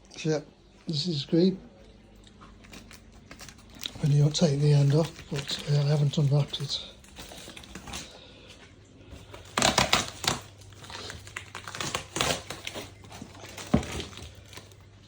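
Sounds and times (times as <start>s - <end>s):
faint low hum: 0.0s - 15.0s
plastic packaging crinkling: 1.9s - 15.0s.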